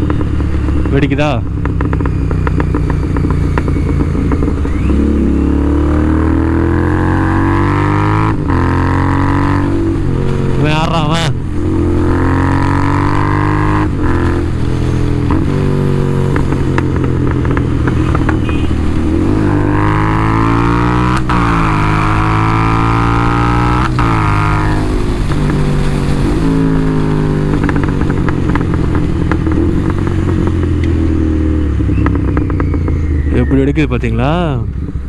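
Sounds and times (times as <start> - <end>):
exhaust crack: 0.0 - 35.0
motorcycle engine revving through gears: 0.0 - 35.0.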